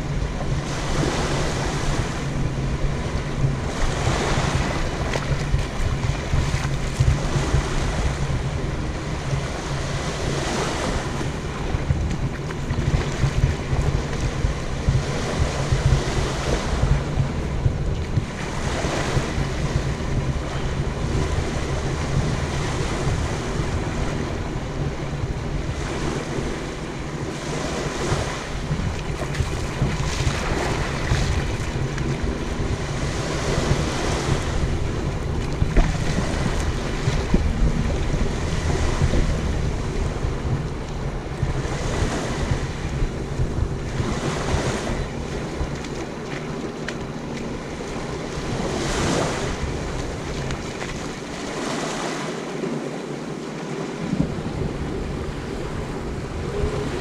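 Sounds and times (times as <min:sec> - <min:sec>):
small waves washing on beach: 0:00.0 - 0:57.0
wind buffeting microphone: 0:00.0 - 0:57.0.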